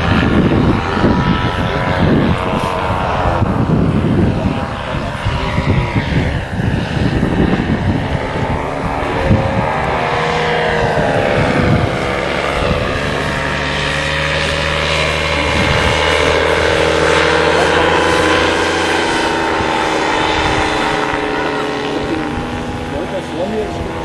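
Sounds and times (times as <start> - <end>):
paramotor engine and propeller: 0.0 - 24.0
wind rumbling on microphone: 0.0 - 24.0.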